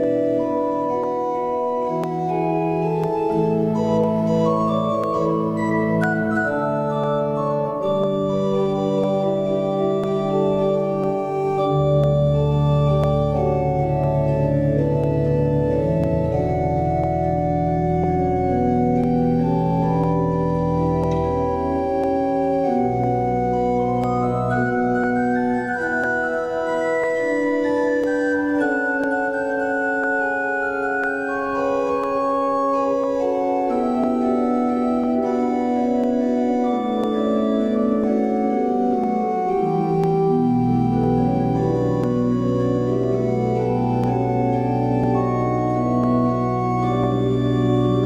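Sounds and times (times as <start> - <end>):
organ playing sustained chords: 0.0 - 48.0.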